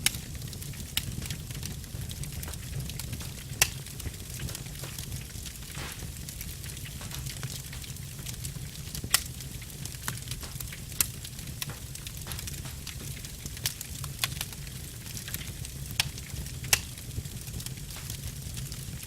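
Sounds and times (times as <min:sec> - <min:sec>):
fire low rumble: 0:00.0 - 0:19.0
wood fire crackling and popping: 0:00.0 - 0:19.0.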